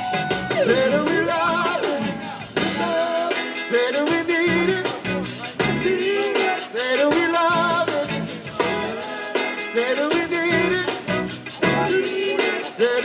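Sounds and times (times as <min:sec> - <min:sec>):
accordion: 0:00.0 - 0:13.0
drum kit: 0:00.0 - 0:13.0
electric guitar: 0:00.0 - 0:13.0
keyboard: 0:00.0 - 0:13.0
person singing: 0:00.0 - 0:13.0.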